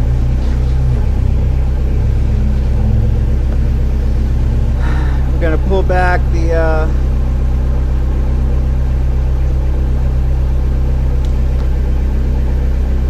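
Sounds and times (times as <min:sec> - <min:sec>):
engine deep drone: 0:00.0 - 0:13.0.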